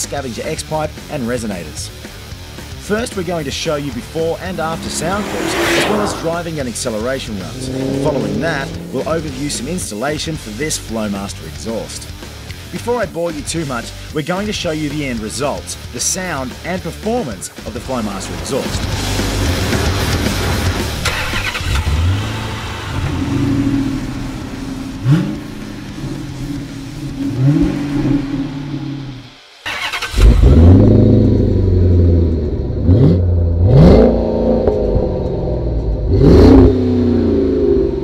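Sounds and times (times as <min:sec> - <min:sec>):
car engine revving: 0:00.7 - 0:12.8, 0:13.6 - 0:38.0.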